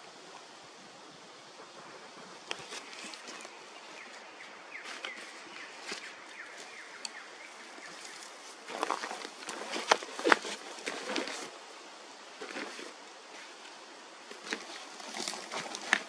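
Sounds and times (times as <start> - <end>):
steady hiss: 0.0 - 16.0
rustling in brush: 1.6 - 16.0.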